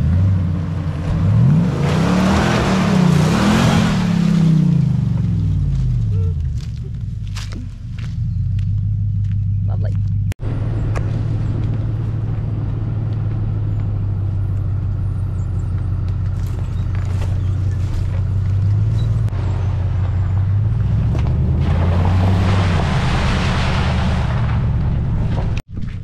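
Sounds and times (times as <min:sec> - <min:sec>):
car engine running: 0:00.0 - 0:25.6.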